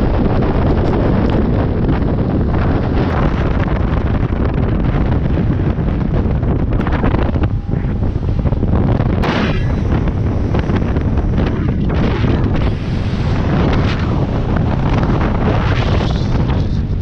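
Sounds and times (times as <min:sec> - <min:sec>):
boat engine: 0:00.0 - 0:17.0
water rushing along hull: 0:00.0 - 0:17.0
wind buffeting microphone: 0:00.0 - 0:17.0.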